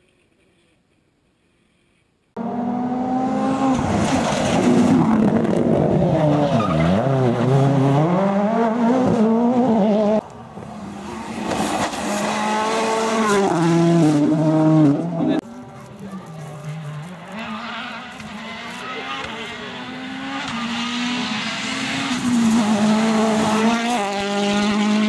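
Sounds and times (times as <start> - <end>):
rally car engine revving: 2.4 - 10.2, 10.8 - 25.0.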